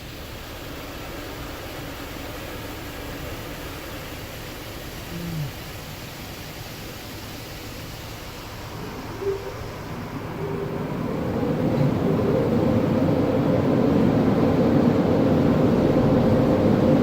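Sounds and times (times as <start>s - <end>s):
car wash rushing: 0.0s - 17.0s.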